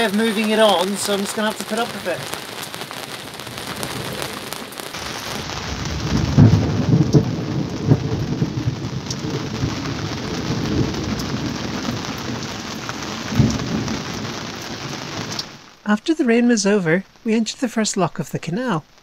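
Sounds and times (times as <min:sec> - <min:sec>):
thunder cracking and rumbling: 0:00.0 - 0:15.6
rain hissing on water: 0:00.0 - 0:19.0.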